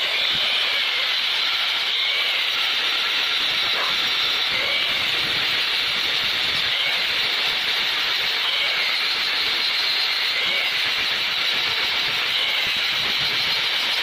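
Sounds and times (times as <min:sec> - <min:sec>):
angle grinder sanding metal pipe: 0:00.0 - 0:14.0.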